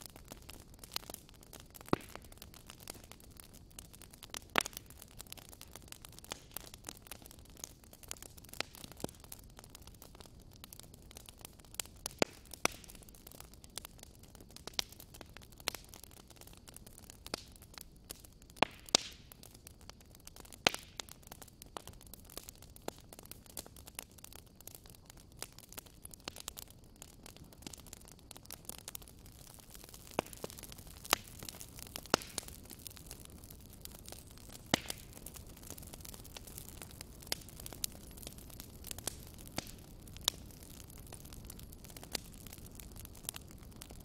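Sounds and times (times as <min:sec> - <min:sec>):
soft steady fire hiss: 0:00.0 - 0:44.0
wood fire crackling and popping: 0:00.0 - 0:44.0.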